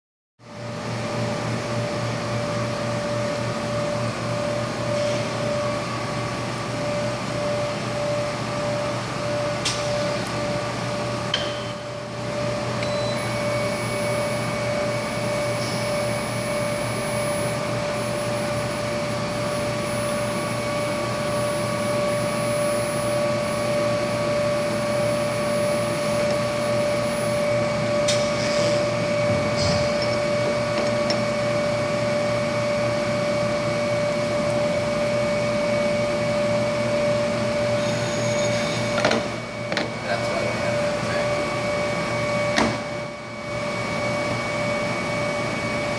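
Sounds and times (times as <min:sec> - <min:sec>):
machine humming: 0:00.6 - 0:45.9
high-pitched whine: 0:01.1 - 0:45.9.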